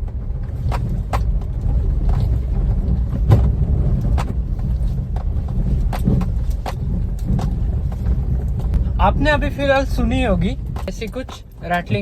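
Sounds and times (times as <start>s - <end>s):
car body rattling and knocking: 0.0s - 12.0s
road and engine rumble: 0.0s - 12.0s.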